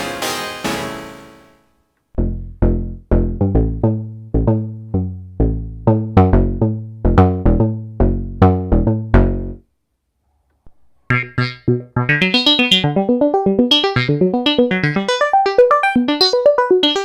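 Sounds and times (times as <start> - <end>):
plucky synthesizer bass notes: 0.0 - 9.7, 10.7 - 17.0.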